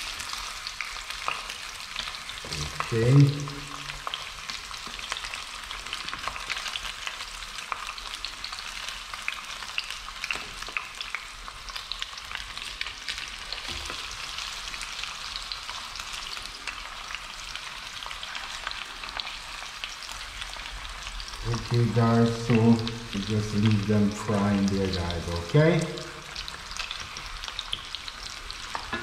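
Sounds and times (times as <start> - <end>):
fish frying in sizzling oil: 0.0 - 29.0.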